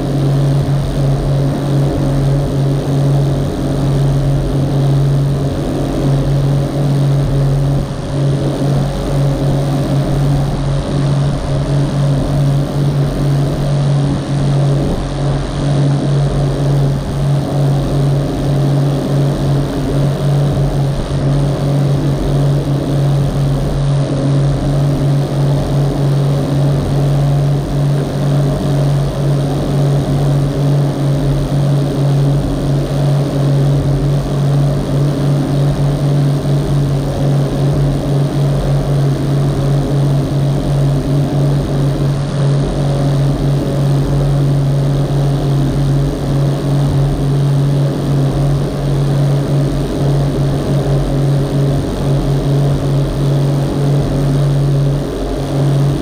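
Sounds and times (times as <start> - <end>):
speedboat engine droning: 0.0 - 56.0
wind: 0.0 - 56.0.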